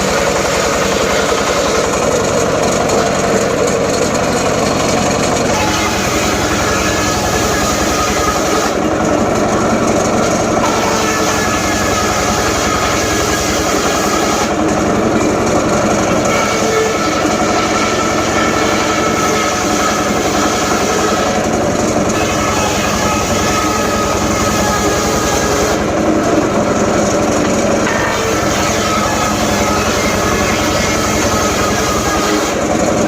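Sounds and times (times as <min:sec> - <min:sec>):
circular saw cutting wood: 0:00.0 - 0:33.0.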